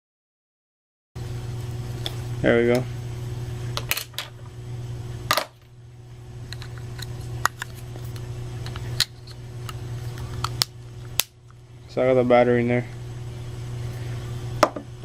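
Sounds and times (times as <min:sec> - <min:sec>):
steady low hum: 0:01.2 - 0:15.0.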